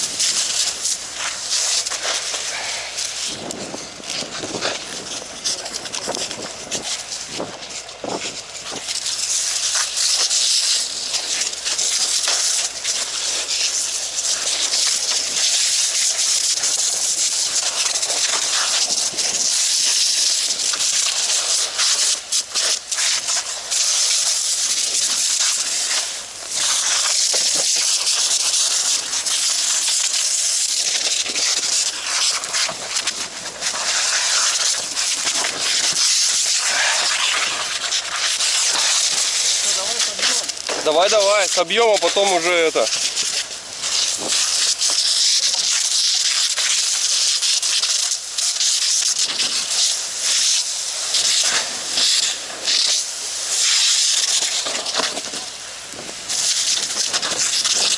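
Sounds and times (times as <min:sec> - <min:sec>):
fire hose spraying water: 0:00.0 - 0:57.9.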